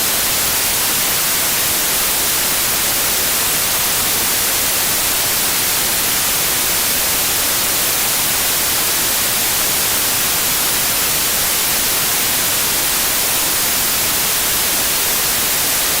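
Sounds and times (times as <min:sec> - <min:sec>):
television static hiss: 0:00.0 - 0:16.0.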